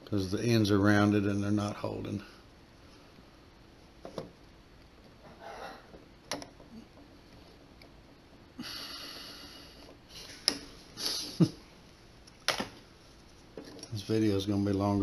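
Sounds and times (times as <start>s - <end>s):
soft hiss: 0.0s - 15.0s.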